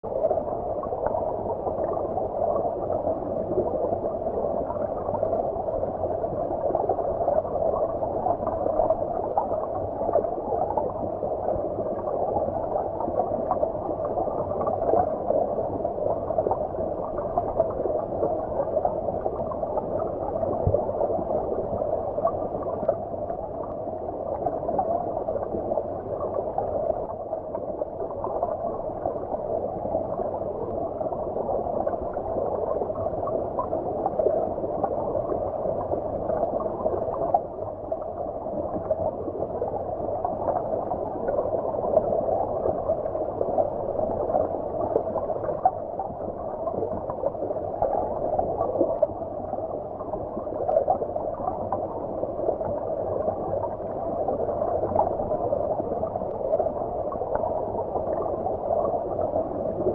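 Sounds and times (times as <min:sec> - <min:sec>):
muffled underwater gurgling: 0:00.0 - 0:59.9.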